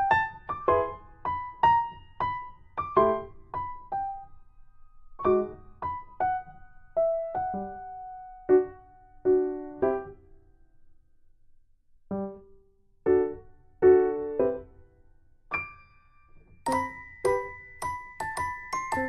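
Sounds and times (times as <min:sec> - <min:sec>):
piano-like keyboard melody: 0:00.0 - 0:10.6, 0:12.1 - 0:19.0.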